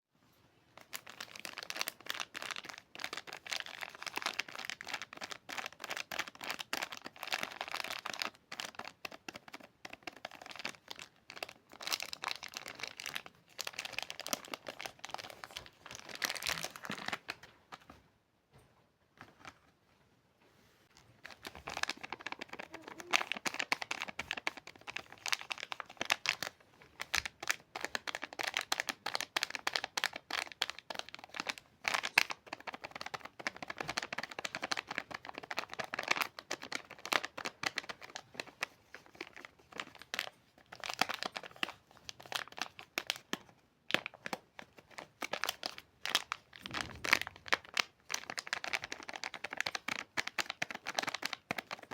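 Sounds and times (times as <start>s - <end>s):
wrapper crinkling and tearing: 0.8s - 17.5s, 21.2s - 51.9s.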